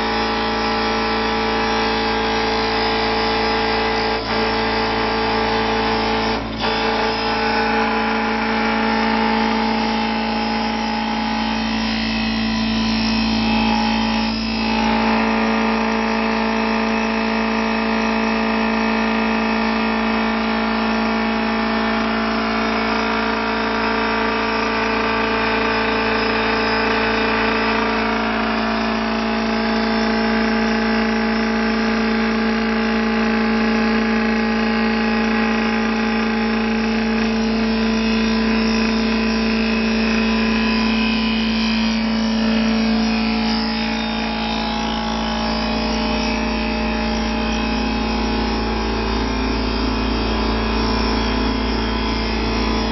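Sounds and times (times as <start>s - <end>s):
lathe cutting wood: 0.0s - 52.9s
motor hum and whine: 0.0s - 52.9s.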